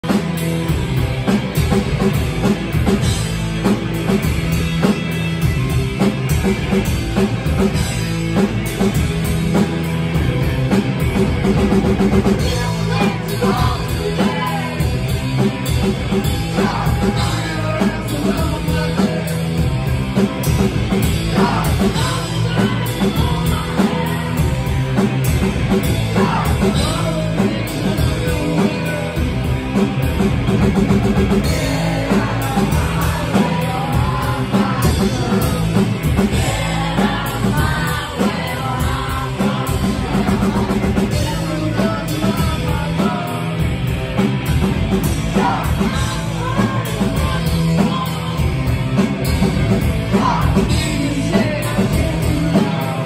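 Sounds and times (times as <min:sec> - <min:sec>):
punk rock band playing live: 0:00.0 - 0:53.0.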